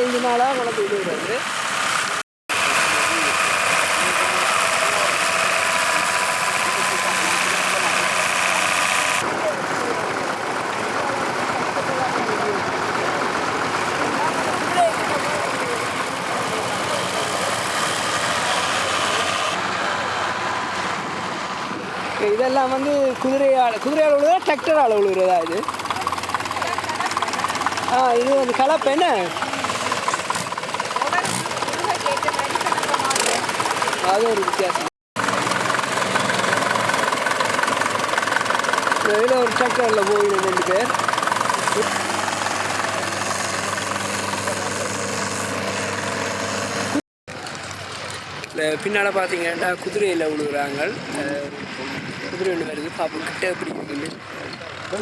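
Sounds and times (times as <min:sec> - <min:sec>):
farm engine running: 0:00.0 - 0:55.0.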